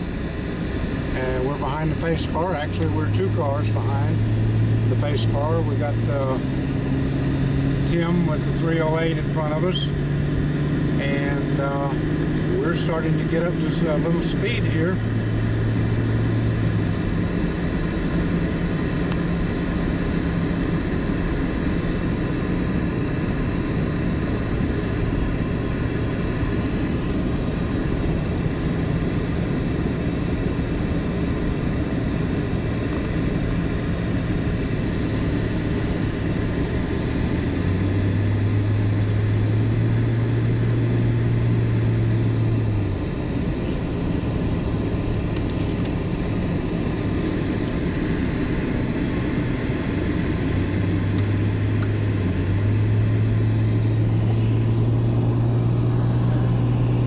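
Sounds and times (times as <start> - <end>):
car engine and tyre drone: 0.0 - 57.0.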